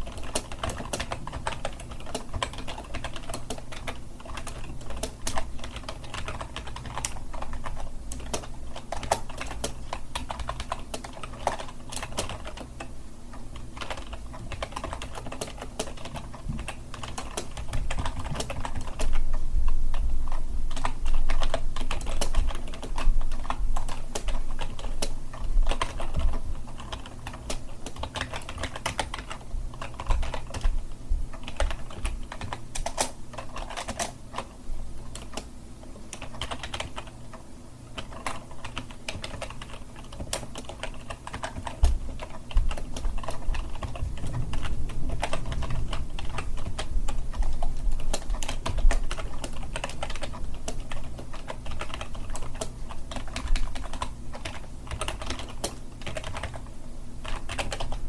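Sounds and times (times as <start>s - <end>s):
typing on keyboard: 0.0s - 58.0s.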